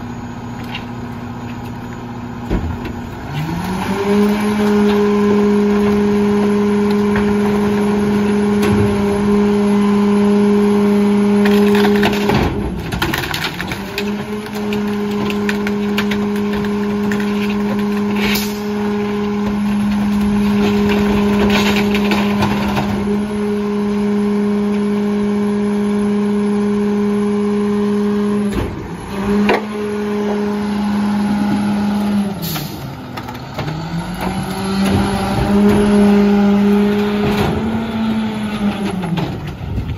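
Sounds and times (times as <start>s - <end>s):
garbage truck engine running: 0.0s - 39.9s
debris clanking in hopper: 2.4s - 25.0s, 28.4s - 39.9s.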